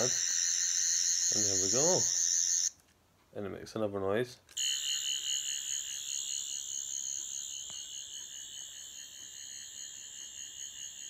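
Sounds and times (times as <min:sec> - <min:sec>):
toy electronic warbling whine: 0:00.0 - 0:02.8, 0:04.6 - 0:11.0.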